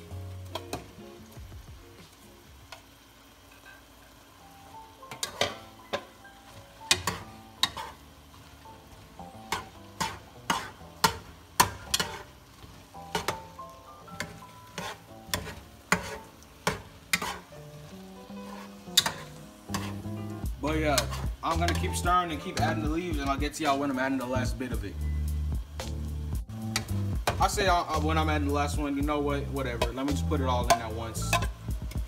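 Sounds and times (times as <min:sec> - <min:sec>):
soft background music: 0:00.0 - 0:32.0.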